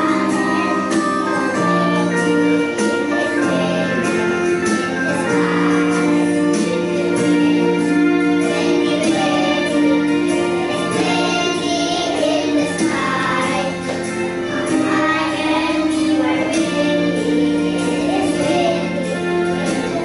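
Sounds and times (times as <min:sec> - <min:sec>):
backing music: 0:00.0 - 0:20.0
children singing: 0:00.0 - 0:20.0.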